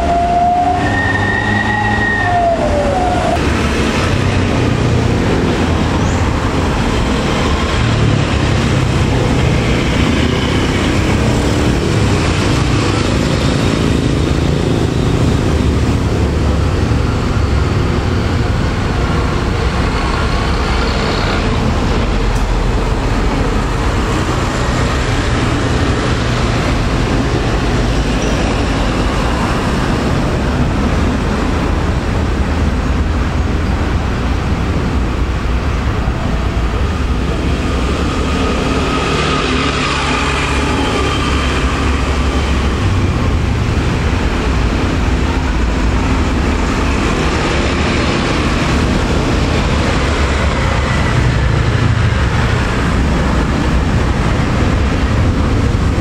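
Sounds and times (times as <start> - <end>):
locomotive engine droning: 0.0 - 56.0
road traffic noise: 0.0 - 56.0.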